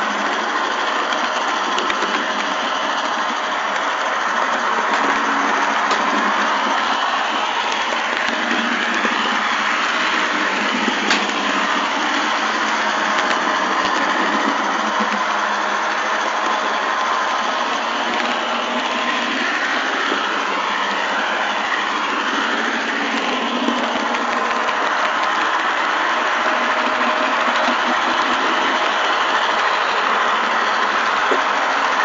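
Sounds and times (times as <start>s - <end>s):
model train motor whirring: 0.0s - 32.0s
wheels rolling on rails: 0.0s - 32.0s.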